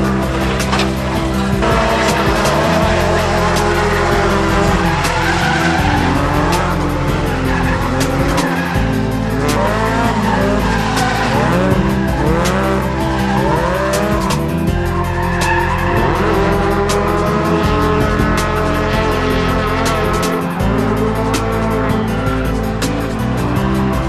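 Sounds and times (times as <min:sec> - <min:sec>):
tyres squealing: 0:00.0 - 0:23.4
background music with beat: 0:00.0 - 0:24.0
car engine revving: 0:00.0 - 0:24.0.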